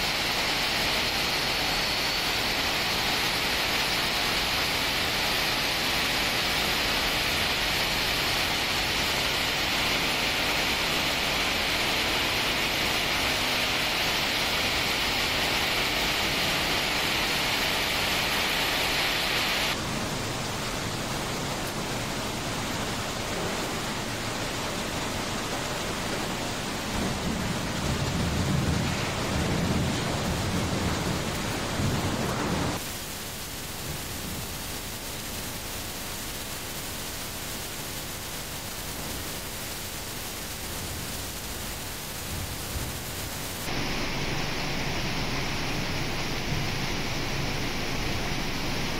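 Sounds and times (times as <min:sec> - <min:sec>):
machinery hiss and rattle: 0:00.0 - 0:20.2, 0:28.1 - 0:48.9.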